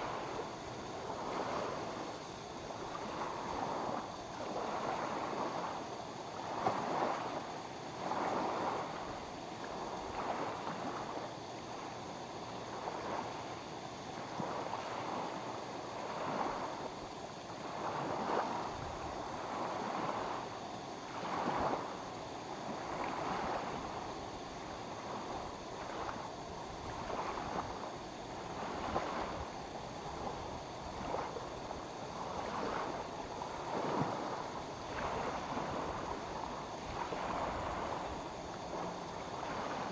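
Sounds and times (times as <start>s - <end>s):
lake waves lapping at shore: 0.0s - 39.9s.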